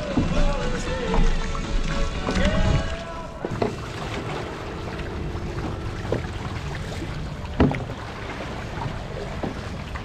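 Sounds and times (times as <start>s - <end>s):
water rushing along canoe hull: 0.0s - 10.0s.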